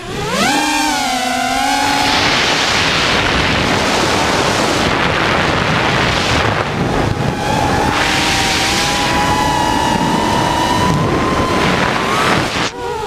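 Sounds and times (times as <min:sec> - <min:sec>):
drone motor whine: 0:00.0 - 0:13.0
loud wind rush: 0:00.0 - 0:13.0.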